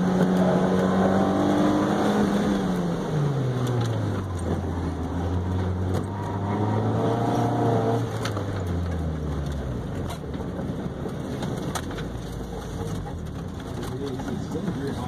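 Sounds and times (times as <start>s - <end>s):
car engine under throttle: 0.0s - 15.0s
tyre and road noise: 0.0s - 15.0s.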